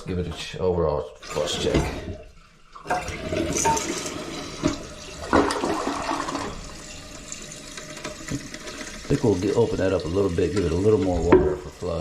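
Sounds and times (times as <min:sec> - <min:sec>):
toilet flushing: 0:00.0 - 0:12.0.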